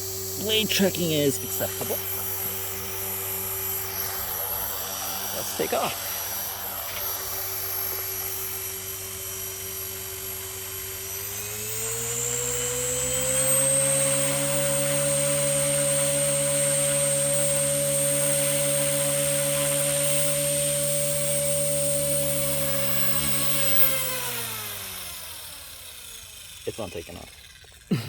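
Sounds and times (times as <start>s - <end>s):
rc helicopter motor whining: 0.0s - 28.0s.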